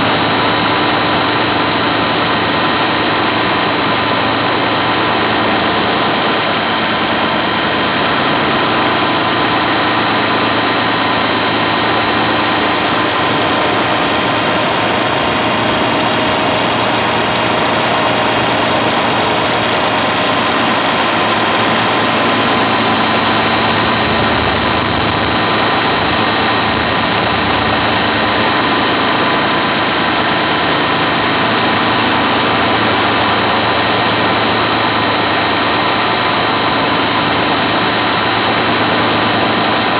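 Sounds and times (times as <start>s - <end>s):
model helicopter high-pitched whine: 0.0s - 39.9s.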